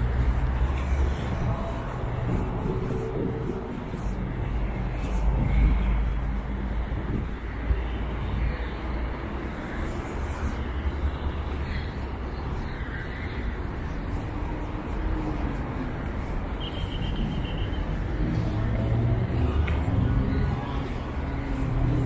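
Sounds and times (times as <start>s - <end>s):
city street traffic noise: 0.0s - 22.0s.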